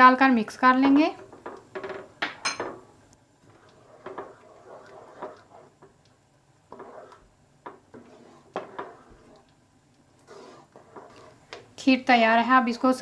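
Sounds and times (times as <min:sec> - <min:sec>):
spoon stirring thick pudding: 0:01.1 - 0:11.9.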